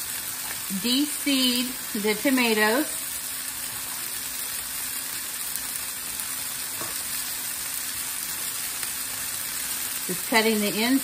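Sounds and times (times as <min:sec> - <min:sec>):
vegetables sizzling on a griddle: 0:00.0 - 0:11.0.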